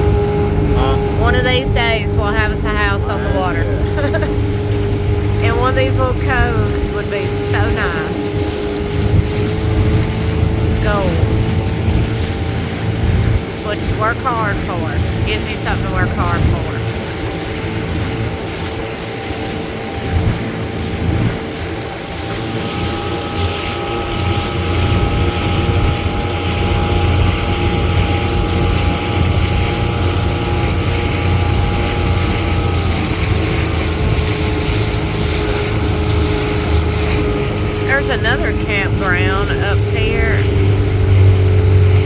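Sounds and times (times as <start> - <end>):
boat motor running: 0.0 - 42.0.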